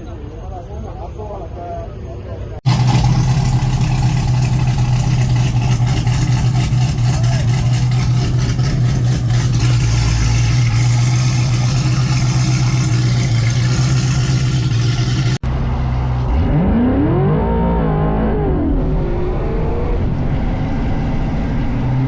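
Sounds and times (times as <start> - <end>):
road and wind noise: 0.0 - 22.0
car engine cruising: 2.6 - 22.0.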